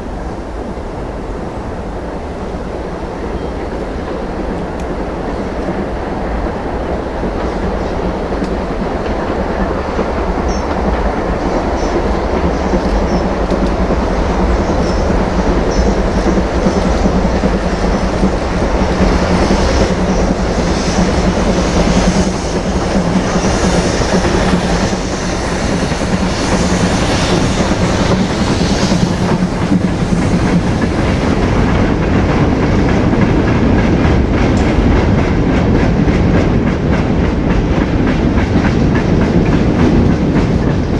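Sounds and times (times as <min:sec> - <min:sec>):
train passing: 0:00.0 - 0:40.9
wheels clacking over rail joints: 0:03.3 - 0:40.9.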